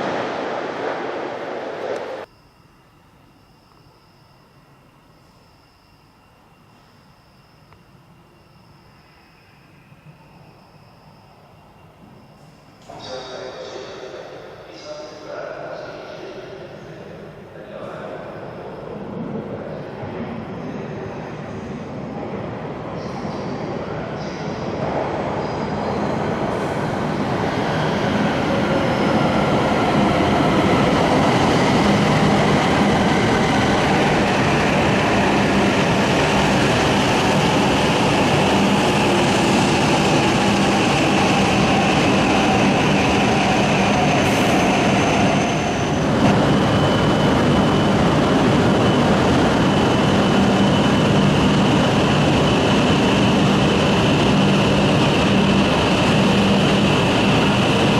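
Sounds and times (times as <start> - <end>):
high-speed train passing: 0.0 - 57.9
rushing roar of air and rails: 0.0 - 57.9.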